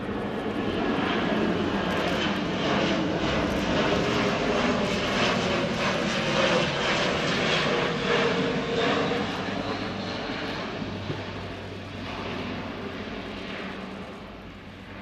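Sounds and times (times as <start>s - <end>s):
turboprop aircraft drone: 0.0s - 15.0s.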